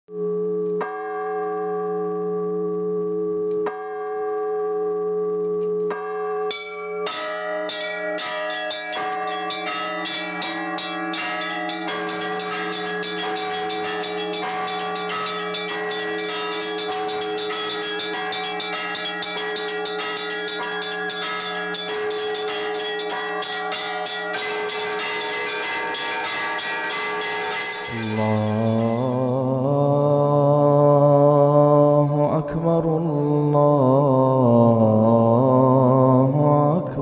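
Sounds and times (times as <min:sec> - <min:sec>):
church bells ringing: 0:00.2 - 0:37.0.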